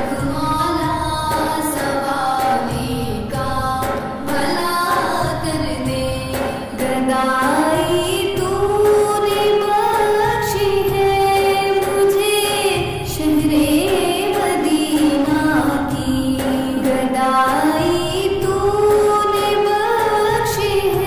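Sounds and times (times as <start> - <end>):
woman singing devotional song: 0.0 - 21.0.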